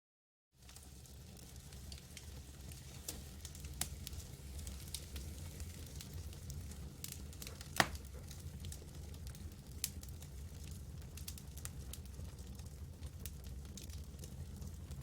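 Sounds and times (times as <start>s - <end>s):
campfire crackling: 0.6s - 15.0s.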